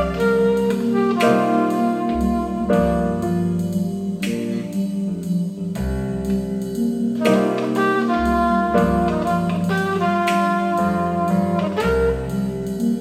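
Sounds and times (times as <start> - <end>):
jazz music over loudspeakers: 0.0 - 13.0.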